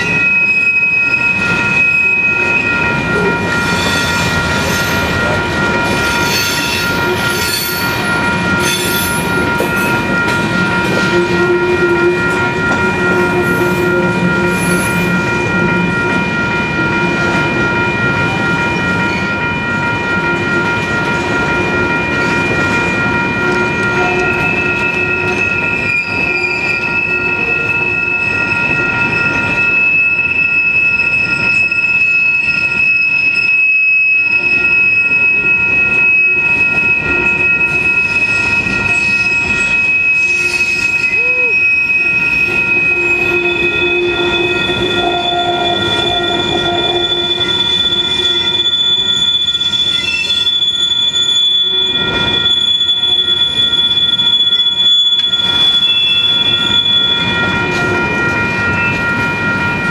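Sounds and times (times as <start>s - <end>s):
high-pitched wheel squeal: 0.0s - 16.2s, 23.4s - 59.0s
freight train cars rumbling past: 0.0s - 59.9s.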